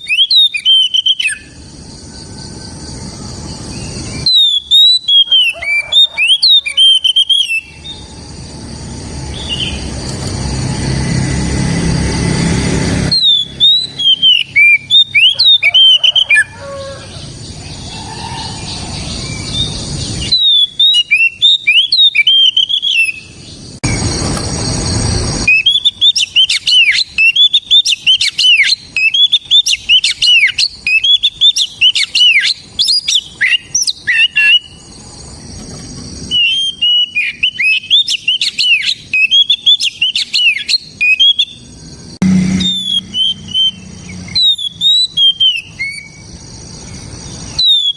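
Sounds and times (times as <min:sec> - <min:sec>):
songbird whistling song: 0:00.0 - 0:08.2, 0:09.3 - 0:10.0, 0:13.1 - 0:24.2, 0:25.4 - 0:35.0, 0:36.2 - 0:41.8, 0:42.5 - 0:47.9.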